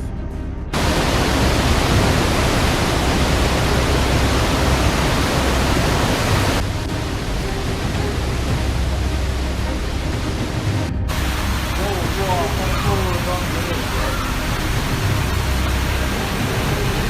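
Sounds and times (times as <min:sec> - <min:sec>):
heavy rain: 0:00.7 - 0:17.0
running floodwater: 0:00.8 - 0:17.0.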